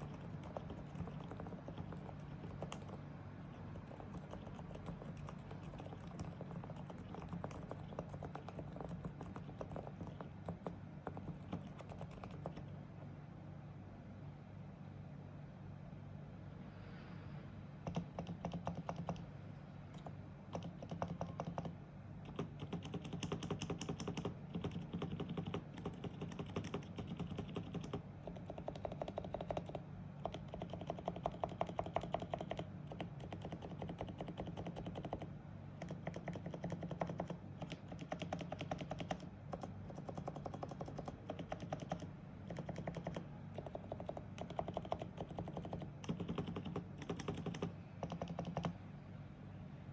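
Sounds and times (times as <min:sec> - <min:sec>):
keyboard typing: 0:00.0 - 0:13.1, 0:17.8 - 0:19.3, 0:19.9 - 0:48.8.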